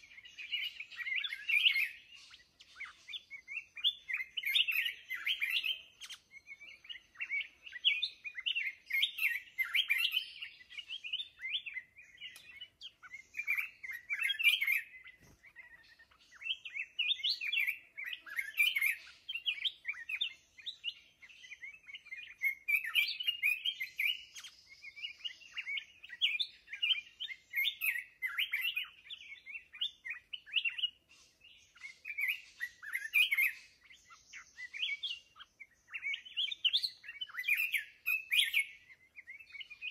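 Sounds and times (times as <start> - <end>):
bird singing chirpy phrases: 0.0 - 39.9.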